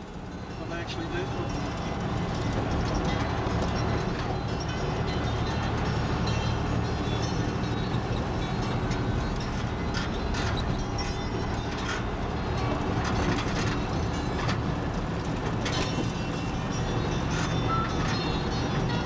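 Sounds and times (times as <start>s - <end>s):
truck engine and road rumble: 0.0s - 19.0s
bodywork rattles and knocks: 1.6s - 19.0s.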